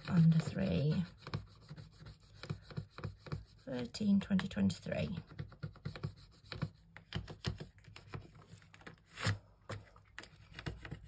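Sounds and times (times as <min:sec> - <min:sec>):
scraping coating off paper card: 0:00.0 - 0:11.0.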